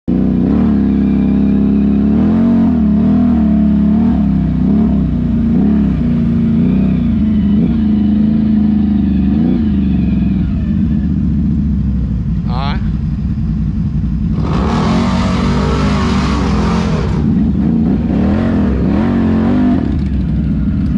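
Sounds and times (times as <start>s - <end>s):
atv engine revving: 0.1s - 20.9s.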